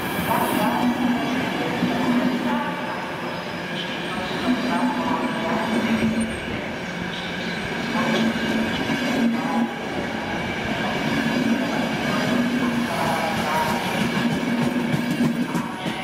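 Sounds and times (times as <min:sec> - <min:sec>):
train coaches rolling on rails: 0:00.0 - 0:16.0.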